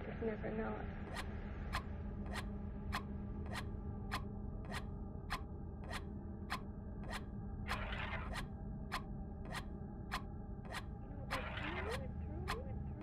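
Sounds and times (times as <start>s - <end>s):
electronic drone: 1.0s - 13.0s
sharp electronic ticks: 1.1s - 13.0s.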